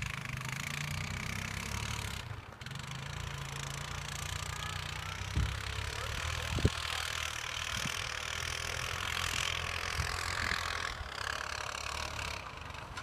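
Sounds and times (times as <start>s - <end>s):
atv engine humming: 0.0s - 13.0s.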